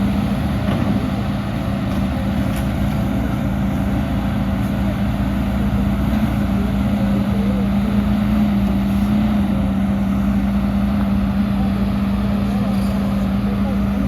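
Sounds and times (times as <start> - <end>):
diesel machinery engine hum: 0.0 - 14.0.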